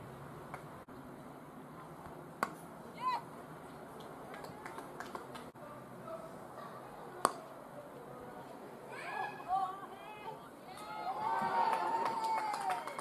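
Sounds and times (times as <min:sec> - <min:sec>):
faint open-ground ambience: 0:00.0 - 0:13.0.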